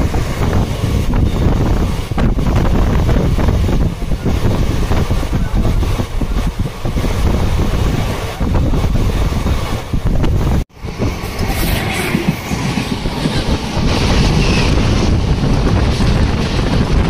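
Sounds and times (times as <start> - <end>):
moving train rumble: 0.0 - 17.0
wind buffeting microphone: 0.0 - 17.0.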